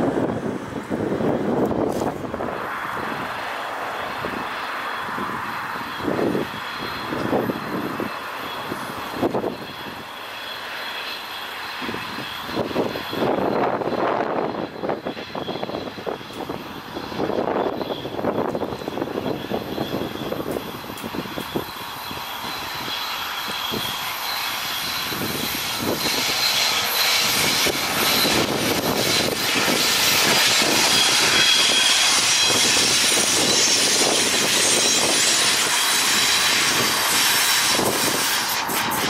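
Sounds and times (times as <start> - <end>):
locomotive engine running: 0.1 - 39.0
faint high whine: 4.0 - 38.4.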